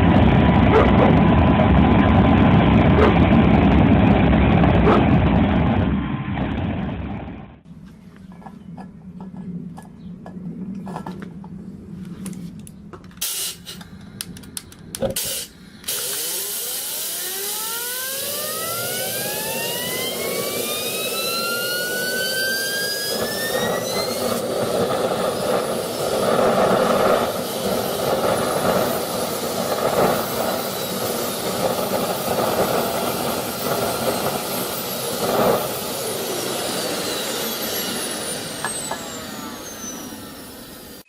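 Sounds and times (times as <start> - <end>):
jet turbine engine roaring: 0.0 - 41.0.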